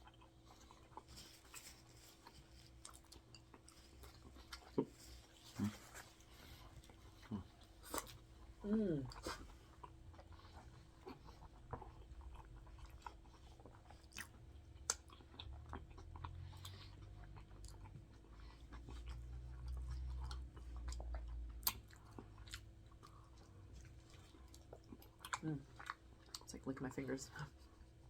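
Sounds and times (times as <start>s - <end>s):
person chewing food: 0.0s - 26.5s.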